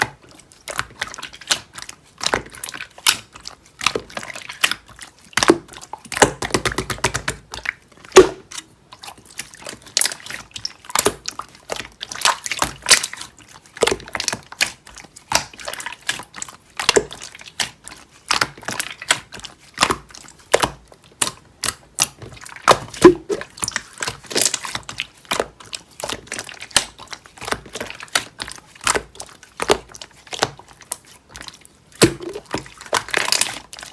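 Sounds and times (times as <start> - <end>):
slime squishing with wet pops: 0.0 - 33.9.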